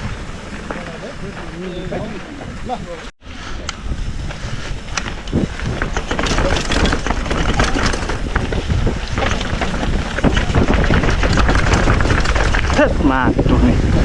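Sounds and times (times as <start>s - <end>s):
bike rattling and knocking: 0.0s - 3.1s, 4.6s - 12.8s
bike tyres on dirt: 0.0s - 3.1s, 3.8s - 13.2s
wind buffeting microphone: 0.0s - 3.1s, 3.8s - 14.0s.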